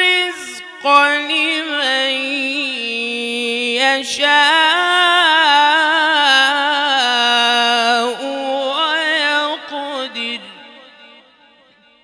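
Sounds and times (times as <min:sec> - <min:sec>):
man chanting melodically: 0:00.0 - 0:11.8.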